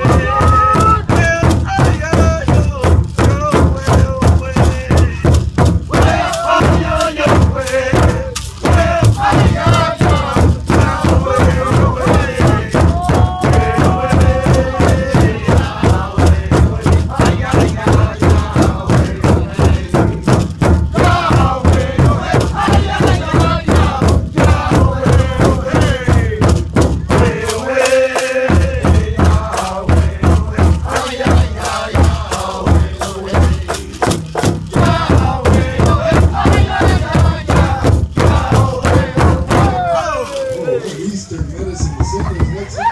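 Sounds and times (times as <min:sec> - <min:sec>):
large hide drum beating: 0:00.0 - 0:40.3, 0:41.4 - 0:42.9
group singing in unison: 0:00.0 - 0:40.9.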